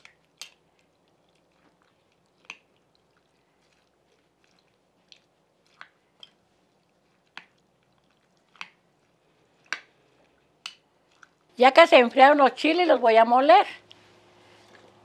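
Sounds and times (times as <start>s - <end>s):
wet squishing from stirring: 0.0s - 12.9s, 13.8s - 15.0s.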